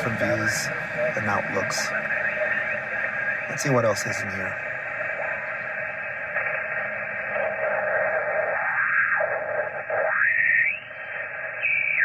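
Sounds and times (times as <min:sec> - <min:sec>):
garbled radio signal: 0:00.0 - 0:12.0
radio band noise hiss: 0:00.0 - 0:12.0
radio signal sliding in pitch: 0:00.0 - 0:12.0.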